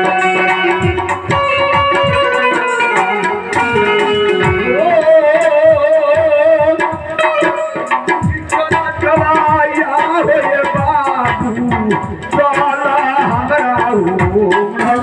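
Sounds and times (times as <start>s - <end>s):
hand-drum strokes: 0.0s - 15.0s
plucked-string melody: 0.0s - 15.0s.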